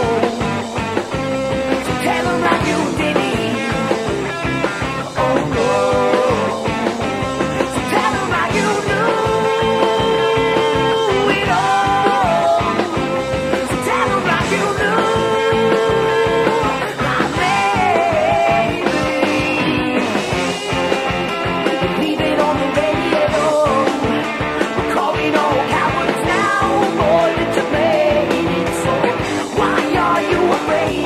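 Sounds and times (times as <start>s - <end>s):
person singing: 0.0s - 0.6s, 1.7s - 4.0s, 5.0s - 7.0s, 7.6s - 20.2s, 21.8s - 24.2s, 24.8s - 31.0s
rock band playing: 0.0s - 31.0s.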